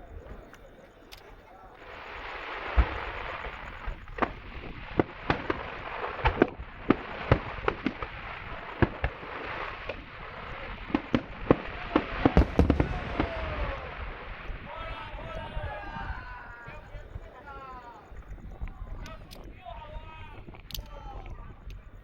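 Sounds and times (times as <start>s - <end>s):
steady hiss: 0.0s - 22.0s
fireworks bangs: 1.8s - 21.6s.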